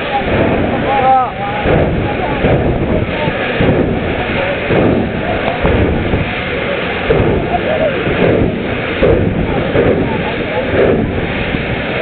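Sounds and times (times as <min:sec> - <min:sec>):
crowd voices: 0:00.0 - 0:12.0.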